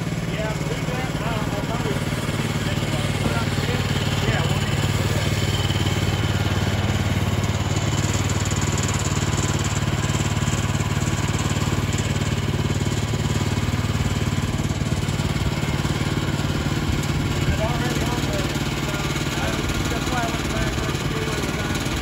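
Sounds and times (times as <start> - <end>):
bandsaw mill engine running: 0.0 - 22.0.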